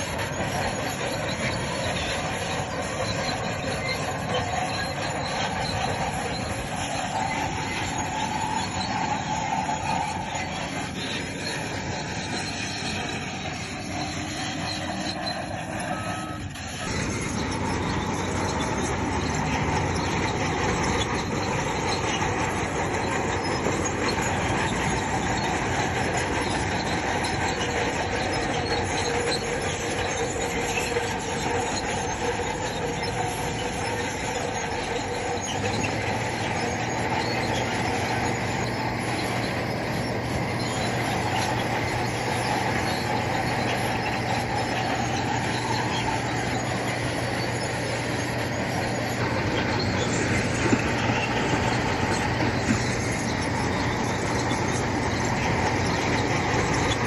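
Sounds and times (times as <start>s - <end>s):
bulldozer engine under load: 0.0s - 57.0s
steel tracks squealing and clanking: 0.0s - 57.0s.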